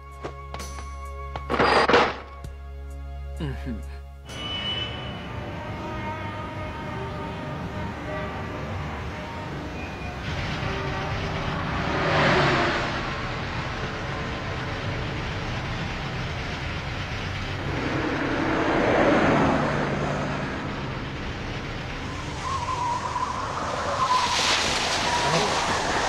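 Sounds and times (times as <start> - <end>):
vehicles passing by: 5.0 - 26.0.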